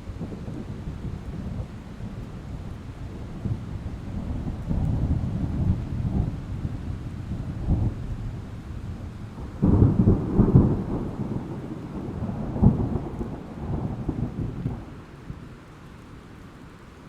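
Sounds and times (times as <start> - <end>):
thunder rumbling: 0.0 - 15.6
steady rain: 0.0 - 17.0.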